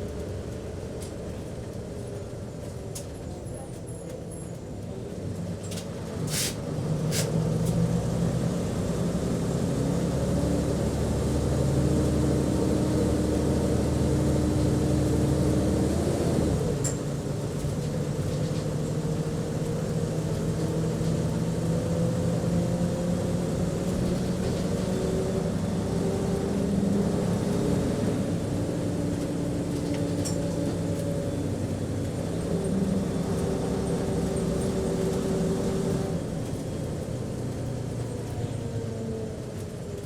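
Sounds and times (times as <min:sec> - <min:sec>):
bus engine droning: 0:00.0 - 0:40.0.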